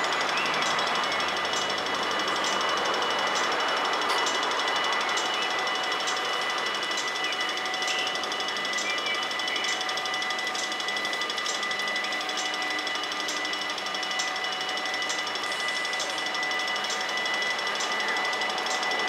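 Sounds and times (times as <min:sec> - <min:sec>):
level crossing warning bells: 0:00.0 - 0:19.0.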